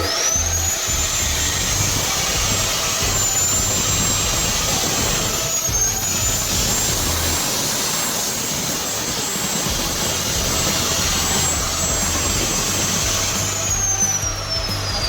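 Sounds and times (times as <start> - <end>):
cut-off saw whining: 0.0 - 15.0
loud hissing: 0.0 - 15.0.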